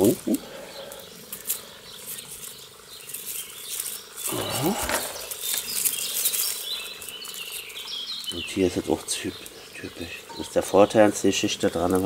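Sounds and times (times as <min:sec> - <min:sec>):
rustling and crackling of soil and leaves: 0:00.0 - 0:12.0.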